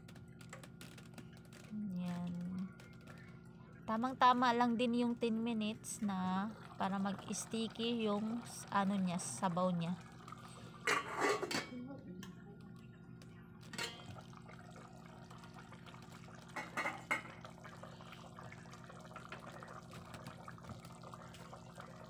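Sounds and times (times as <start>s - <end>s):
stew bubbling in a pot: 0.0s - 11.6s, 12.3s - 22.0s.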